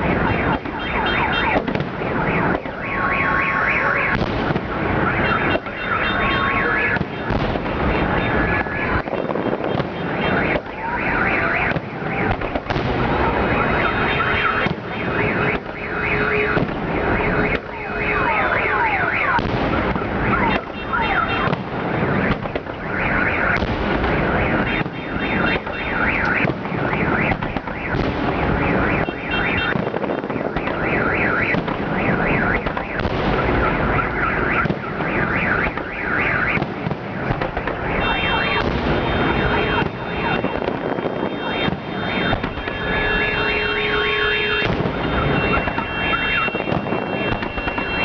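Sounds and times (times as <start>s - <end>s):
car alarm: 0.0s - 48.0s
fireworks bangs and crackles: 0.0s - 48.0s.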